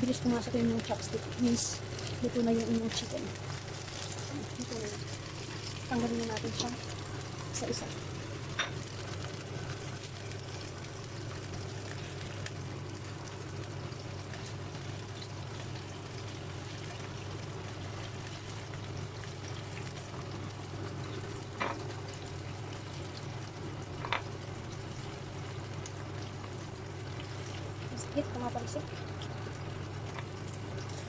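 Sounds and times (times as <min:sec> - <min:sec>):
chicken wings sizzling in oil: 0:00.0 - 0:31.0.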